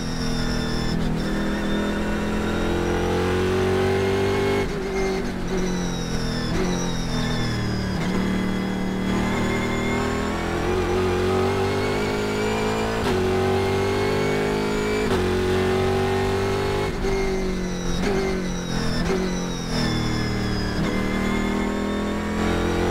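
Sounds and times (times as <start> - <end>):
race car engine accelerating: 0.0 - 22.9.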